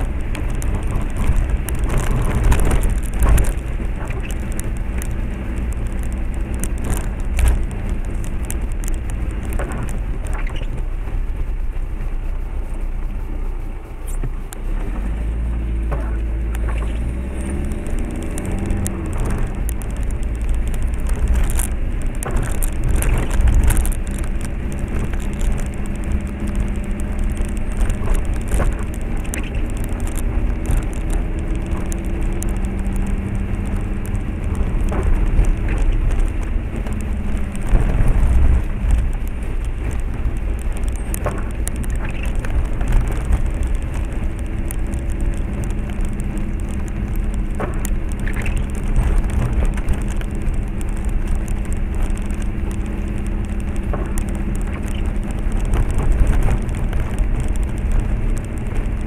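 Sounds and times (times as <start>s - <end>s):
knocks and rattles over bumps: 0.0s - 13.0s, 14.0s - 59.0s
car engine running: 0.0s - 59.0s
tyres on wet rough road: 0.0s - 59.0s.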